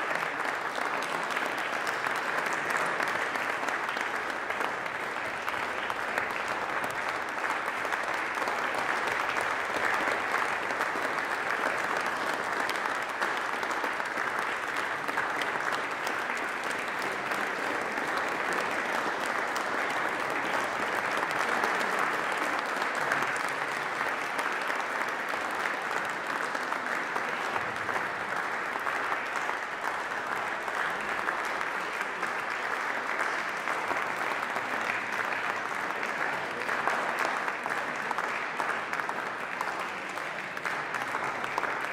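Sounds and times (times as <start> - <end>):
audience applause: 0.0 - 41.9.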